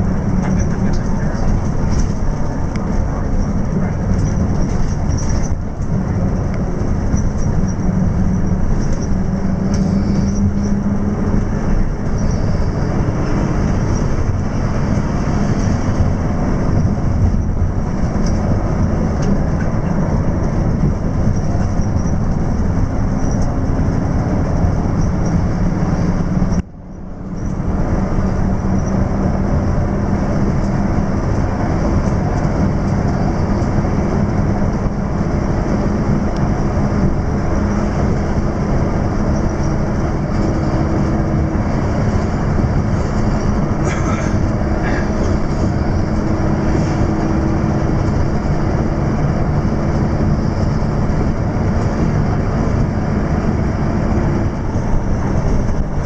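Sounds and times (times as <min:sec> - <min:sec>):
bus engine drone and road rumble: 0:00.0 - 0:56.0.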